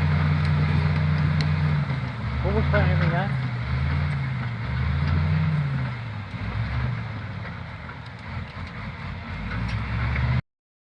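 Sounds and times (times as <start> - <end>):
bulldozer diesel engine running: 0.0 - 10.4.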